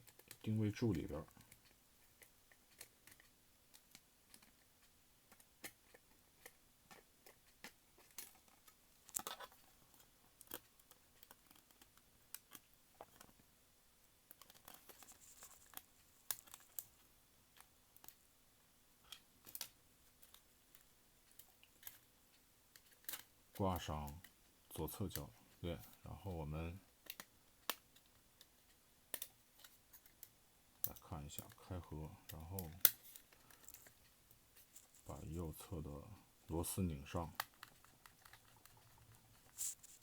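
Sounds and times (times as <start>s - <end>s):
plastic parts clicking and tapping: 0.0s - 13.4s, 14.2s - 18.2s, 19.0s - 26.0s, 26.8s - 35.4s, 36.6s - 39.7s.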